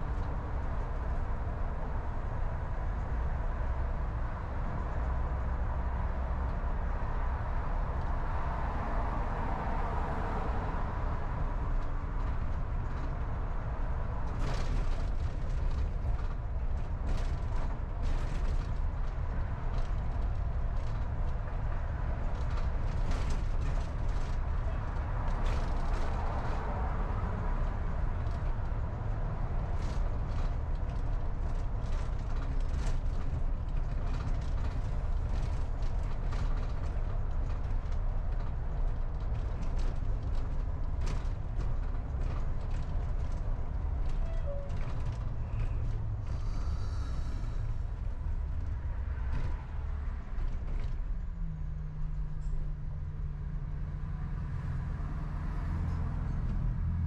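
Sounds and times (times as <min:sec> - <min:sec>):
car tyres and engine rumbling: 0:00.0 - 0:57.0.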